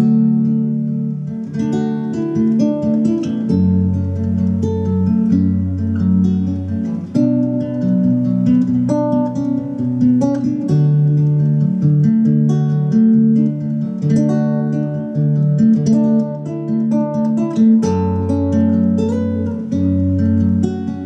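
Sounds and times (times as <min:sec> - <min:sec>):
nylon-string guitar fingerstyle: 0:00.0 - 0:21.0.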